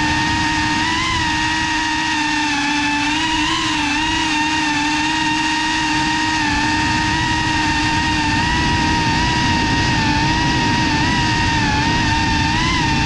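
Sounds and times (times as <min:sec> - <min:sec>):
low wind rumble: 0:00.0 - 0:13.0
quadcopter motors whining: 0:00.0 - 0:13.0.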